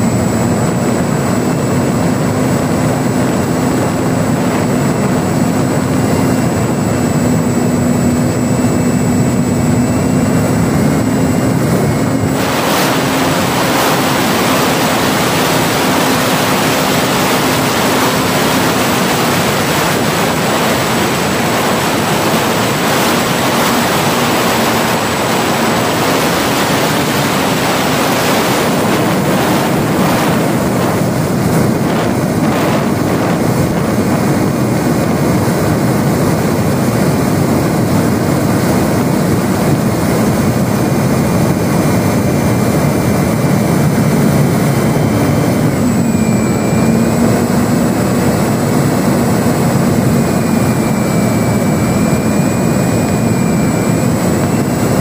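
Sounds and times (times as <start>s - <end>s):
electric motor and propeller: 0.0s - 55.0s
rushing wind noise: 0.0s - 55.0s.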